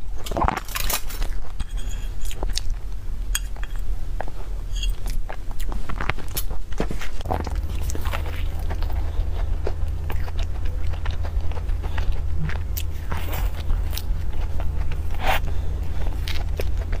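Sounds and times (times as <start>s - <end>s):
low hum: 0.0s - 17.0s
crunchy chewing: 0.2s - 17.0s.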